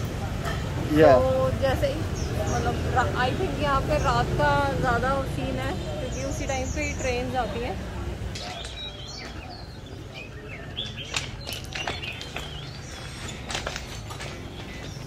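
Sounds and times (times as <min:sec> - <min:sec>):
low street noise rumble: 0:00.0 - 0:15.0
small birds chirping: 0:00.9 - 0:15.0.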